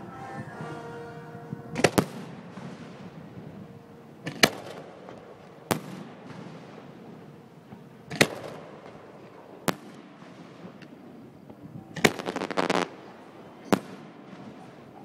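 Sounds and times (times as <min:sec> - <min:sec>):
fireworks bangs: 0:00.0 - 0:15.0
fireworks crackling pops: 0:01.5 - 0:15.0.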